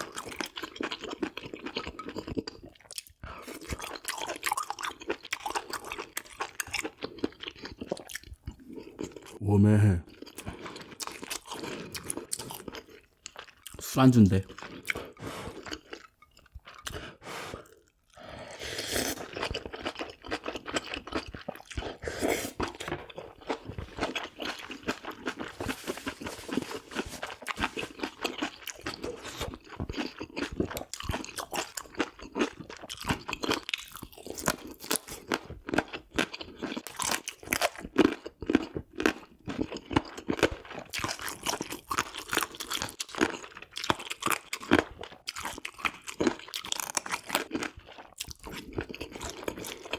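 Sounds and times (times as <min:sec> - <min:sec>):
chewing with wet crunches: 0:00.0 - 0:09.4, 0:10.0 - 0:18.3, 0:19.0 - 0:49.9.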